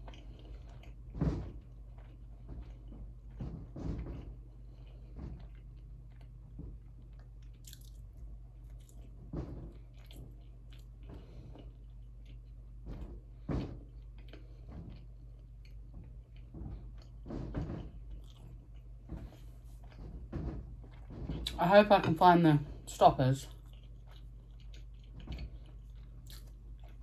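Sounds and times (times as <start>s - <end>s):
chewing and biting food: 0.0s - 21.5s, 23.5s - 27.0s.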